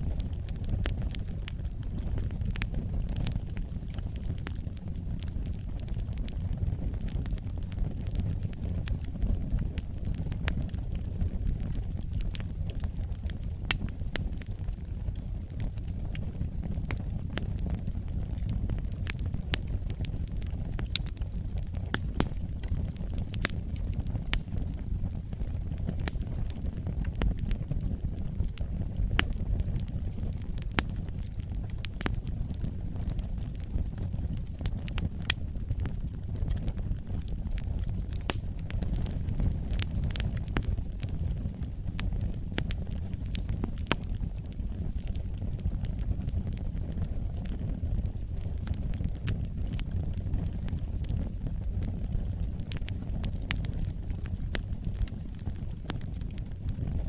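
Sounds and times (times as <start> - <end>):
campfire rumble: 0.0 - 57.0
fire crackling and popping: 0.0 - 57.0.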